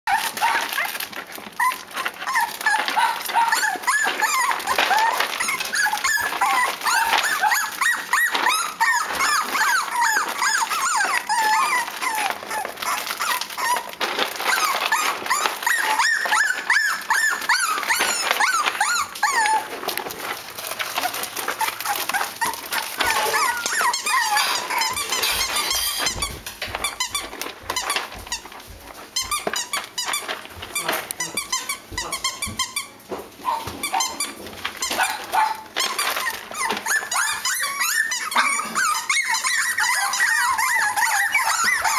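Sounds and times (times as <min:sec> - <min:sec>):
clicks and scratches: 0:00.1 - 0:41.9
puppies whining and yelping: 0:00.1 - 0:41.9.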